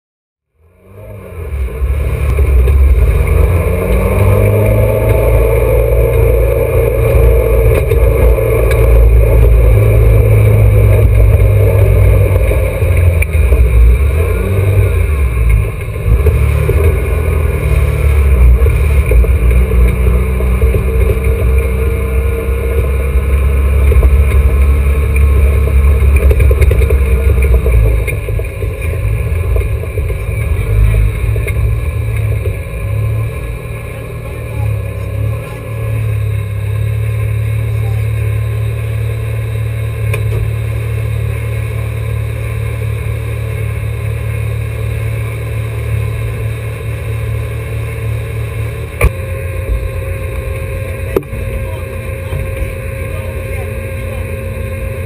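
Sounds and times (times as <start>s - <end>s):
racing car engine revving: 0.6s - 55.0s.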